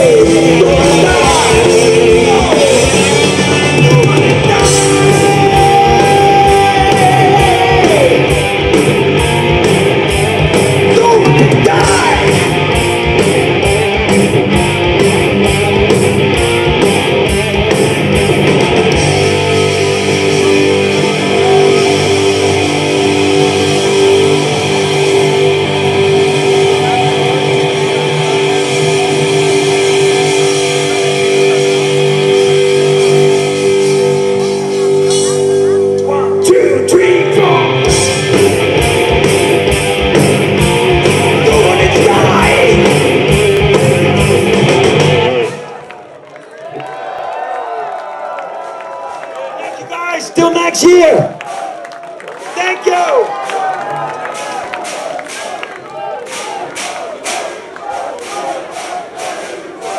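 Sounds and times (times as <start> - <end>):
drums: 0.0 - 47.1, 47.8 - 59.9
loud electric guitars: 0.0 - 56.8.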